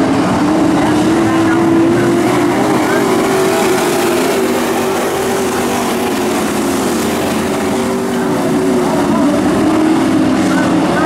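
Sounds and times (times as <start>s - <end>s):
racing truck engines: 0.0s - 11.0s.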